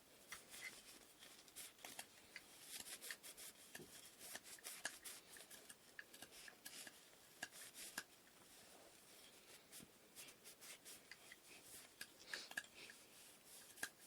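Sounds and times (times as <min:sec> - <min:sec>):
scratchy rubs: 0:00.2 - 0:12.1.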